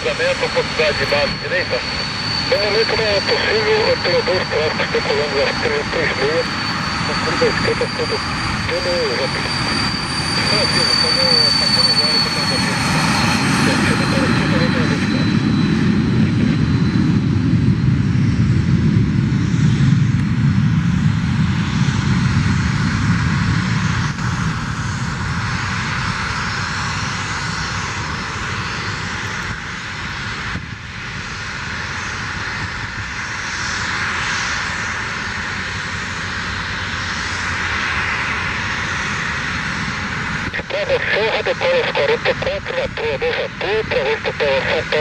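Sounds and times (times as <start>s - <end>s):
jet engines roaring at takeoff: 0.0s - 45.0s.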